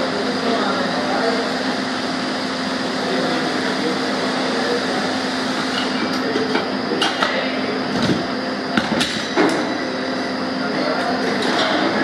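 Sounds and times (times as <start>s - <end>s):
factory machinery hum: 0.0s - 12.0s.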